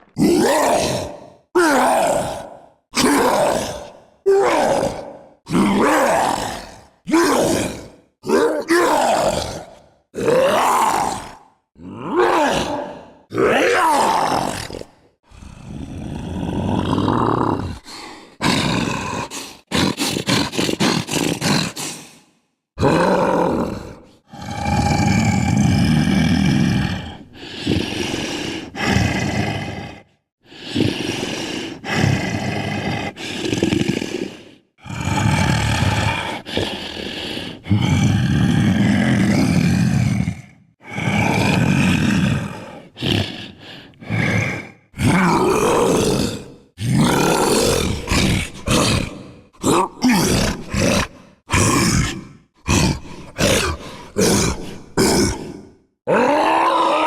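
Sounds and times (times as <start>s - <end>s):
person roaring: 0.0s - 22.1s, 22.8s - 57.0s
person growling: 0.0s - 22.2s, 22.8s - 57.0s.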